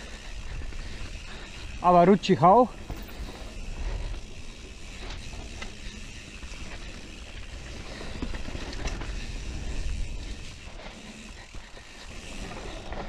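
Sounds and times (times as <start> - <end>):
bike chain and frame rattling: 0.0 - 13.0
bike tyres on muddy trail: 0.0 - 13.0.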